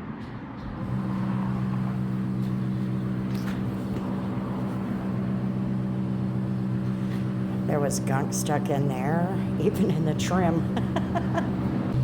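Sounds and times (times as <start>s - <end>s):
low mechanical hum: 0.1s - 12.0s.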